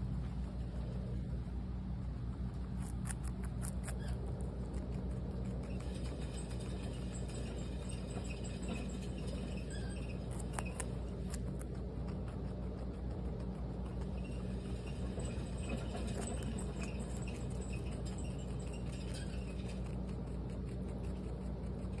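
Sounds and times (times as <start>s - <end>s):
guinea pig chewing celery: 0.0s - 22.0s
steady low hum: 0.0s - 22.0s.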